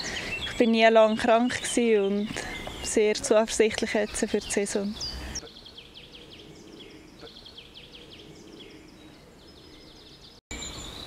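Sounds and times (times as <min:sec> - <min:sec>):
bird singing high trills: 0:00.0 - 0:03.2, 0:03.8 - 0:11.0
faint outdoor ambience: 0:00.0 - 0:11.0.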